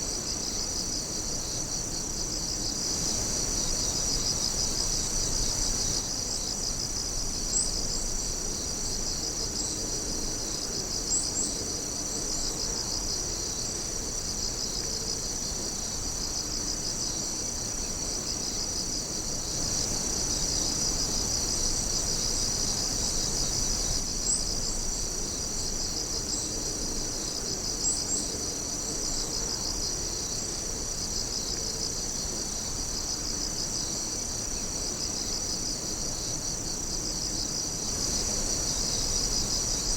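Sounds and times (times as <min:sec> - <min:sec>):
crickets and insects chirping: 0:00.0 - 0:39.9
higher insect chirps: 0:00.0 - 0:39.9.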